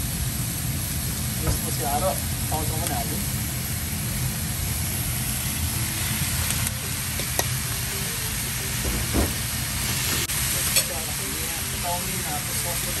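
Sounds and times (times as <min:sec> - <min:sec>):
vegetables sizzling in frying pan: 0:00.0 - 0:13.0.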